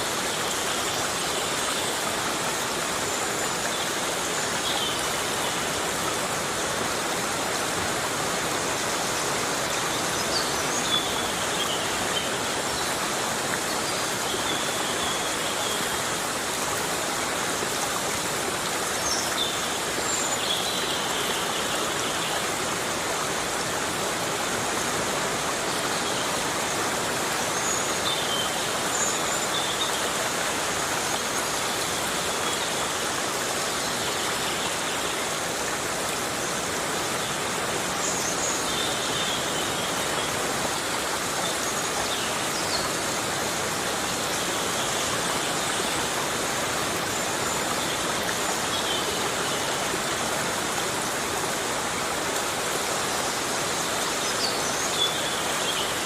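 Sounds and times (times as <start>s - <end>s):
heavy rain on forest: 0.0s - 56.0s.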